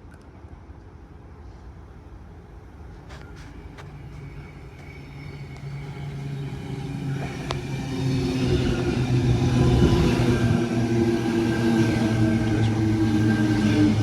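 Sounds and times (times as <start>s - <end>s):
electric train approaching: 2.2s - 14.0s.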